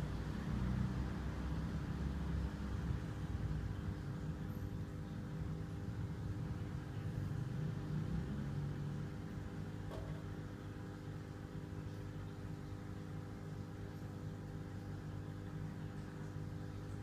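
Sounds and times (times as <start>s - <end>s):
aquarium pump and filter hum: 0.0s - 17.0s.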